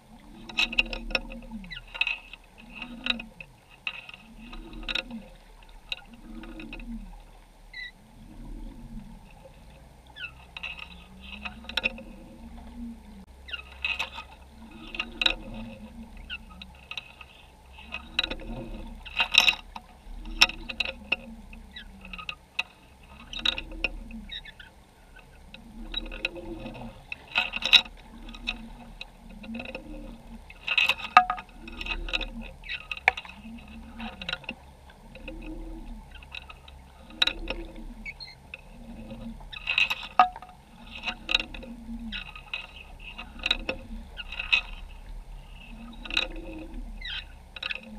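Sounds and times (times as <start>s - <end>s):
low underwater hum: 0.0s - 47.9s
underwater clicks and crackles: 0.0s - 47.9s.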